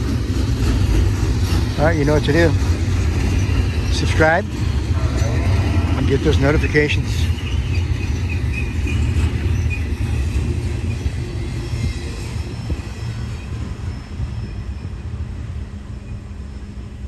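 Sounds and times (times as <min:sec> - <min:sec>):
train wheels rumbling on rail: 0:00.0 - 0:17.0
faint wheel squeal: 0:03.2 - 0:17.0.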